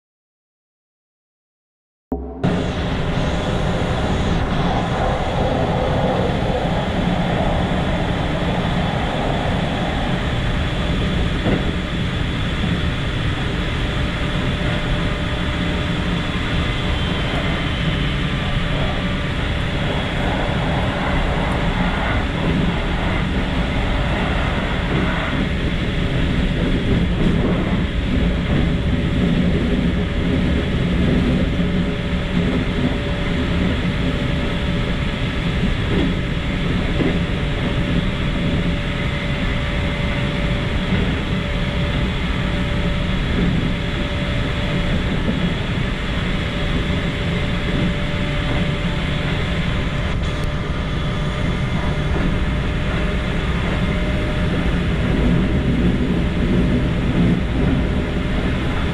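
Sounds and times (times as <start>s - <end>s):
train wheels rumbling: 2.1s - 58.9s.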